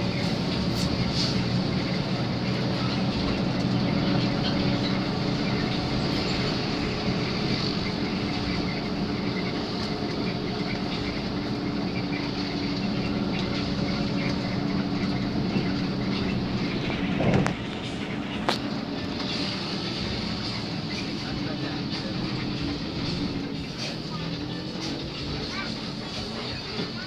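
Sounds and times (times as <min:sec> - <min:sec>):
bus engine hum and road noise: 0:00.0 - 0:27.0.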